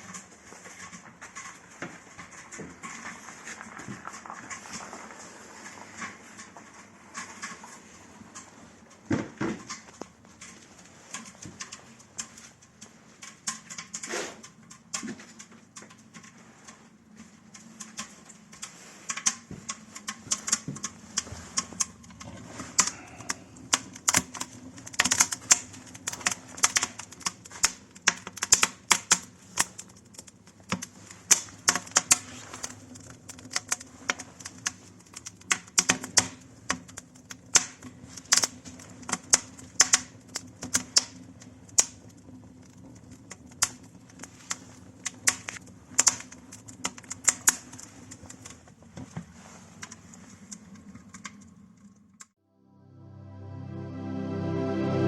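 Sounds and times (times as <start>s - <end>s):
wood fire crackling: 0.0s - 52.4s.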